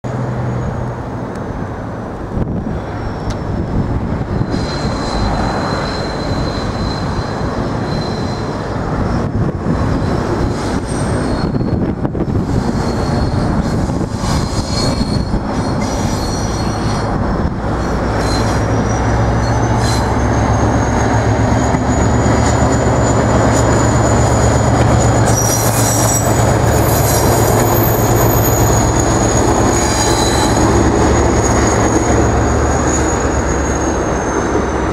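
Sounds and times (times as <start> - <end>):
diesel locomotive engine rumble: 0.0 - 34.9
high wheel squeal: 2.8 - 34.9.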